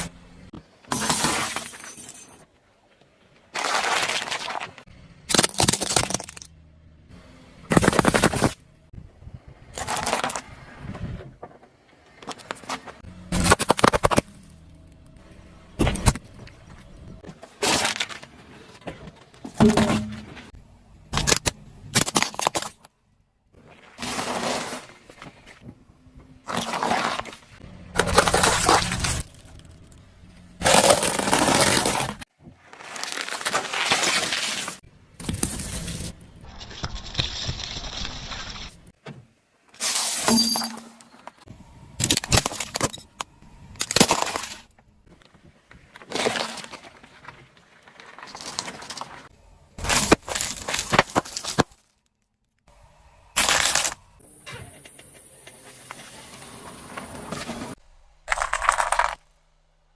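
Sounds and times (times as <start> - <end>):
objects crunching under tyres: 2.8 - 6.6, 7.6 - 8.6, 9.6 - 39.0, 39.7 - 59.9.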